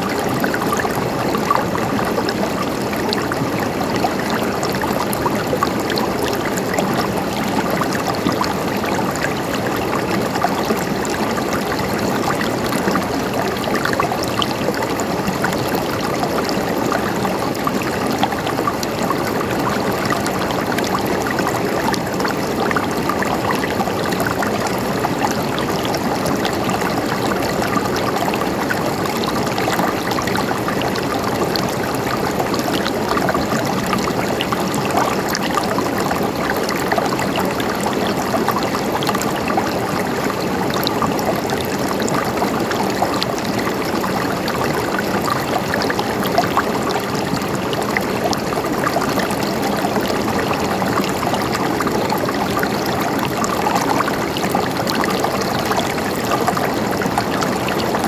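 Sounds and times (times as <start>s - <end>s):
stream gurgling over rocks: 0.0s - 58.0s.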